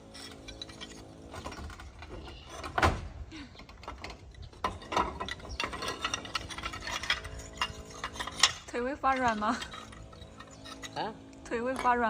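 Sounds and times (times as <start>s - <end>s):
roof tiles knocking and clinking: 0.0s - 11.0s.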